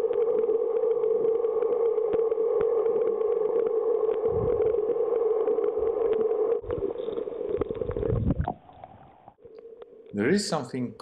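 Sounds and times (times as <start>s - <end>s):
underwater hum: 0.0s - 10.1s.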